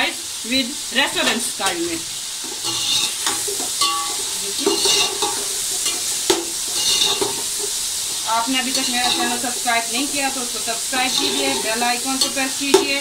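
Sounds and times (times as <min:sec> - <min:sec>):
chicken sizzling in hot oil: 0:00.0 - 0:13.0
metal spatula scraping pot: 0:02.4 - 0:13.0.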